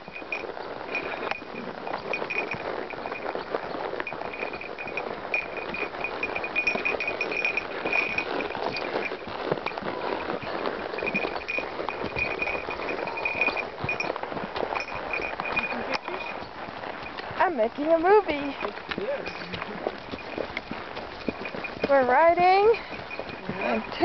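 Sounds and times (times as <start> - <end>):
hoofbeats on dirt: 0.0 - 24.0
horse tack noise: 0.0 - 24.0.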